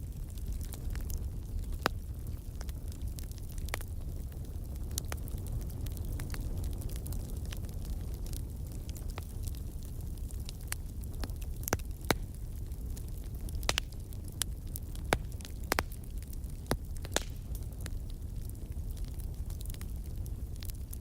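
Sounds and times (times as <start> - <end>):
burning logs crackling and popping: 0.0 - 21.0
fire flames rumbling: 0.0 - 21.0.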